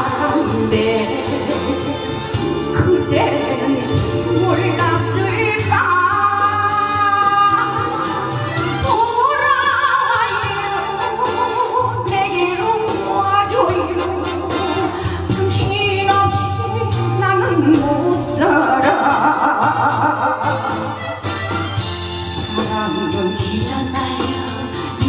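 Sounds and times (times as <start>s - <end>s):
woman singing with vibrato: 0.0s - 21.0s, 22.4s - 25.0s
instrumental accompaniment: 0.0s - 25.0s.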